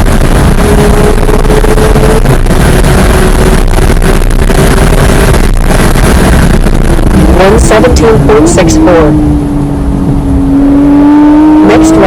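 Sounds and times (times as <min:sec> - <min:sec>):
car engine at high revs: 0:00.0 - 0:12.0
road and wind noise: 0:00.0 - 0:12.0.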